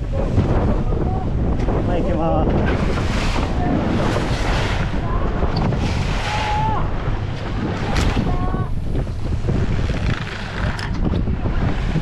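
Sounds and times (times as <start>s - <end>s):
waves rushing: 0.0s - 12.0s
wind buffeting microphone: 0.0s - 12.0s.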